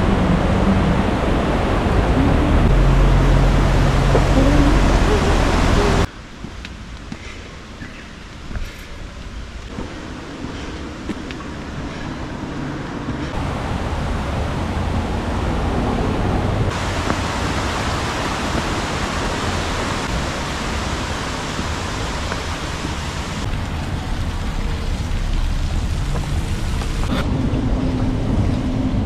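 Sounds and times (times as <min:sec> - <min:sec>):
heavy low rumble: 0:00.0 - 0:29.0
rushing outdoor noise: 0:00.0 - 0:29.0.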